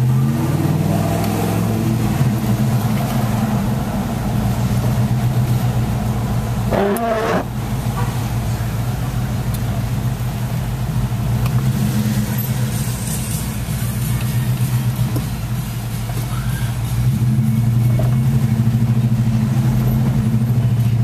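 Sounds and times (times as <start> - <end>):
car engine running at low revs: 0.0 - 21.0.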